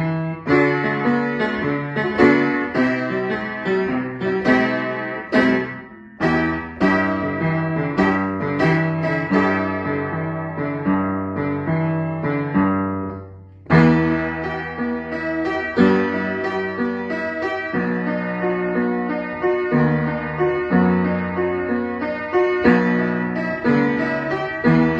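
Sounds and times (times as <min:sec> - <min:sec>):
upright piano chords: 0:00.0 - 0:24.9.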